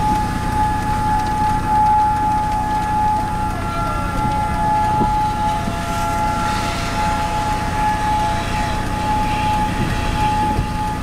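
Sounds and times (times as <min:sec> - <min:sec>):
low rumbling noise: 0:00.0 - 0:11.0
warning siren steady tone: 0:00.0 - 0:11.0.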